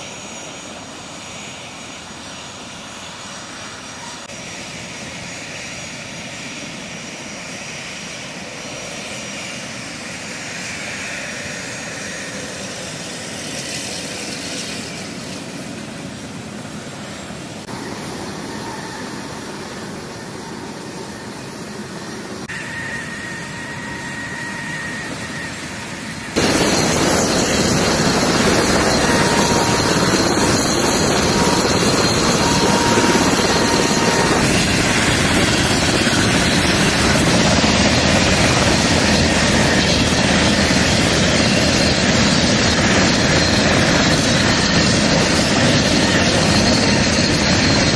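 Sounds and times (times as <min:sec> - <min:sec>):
helicopter rotor and turbine noise: 0:00.0 - 0:47.9
jet engine whine: 0:00.0 - 0:47.9.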